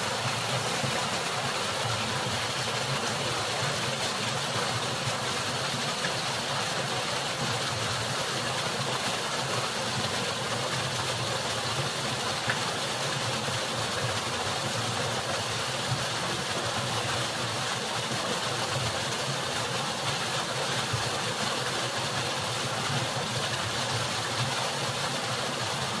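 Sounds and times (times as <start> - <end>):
waterfall pouring: 0.0 - 26.0.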